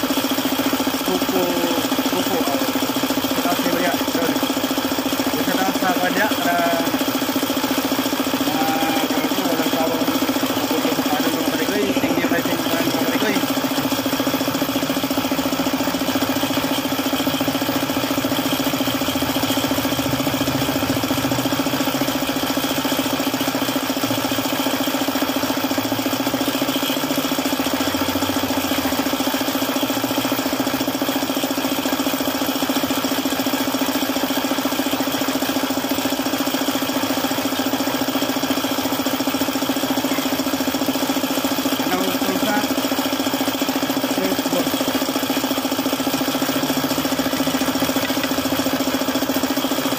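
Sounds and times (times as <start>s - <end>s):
engine idling with knock: 0.0s - 49.9s.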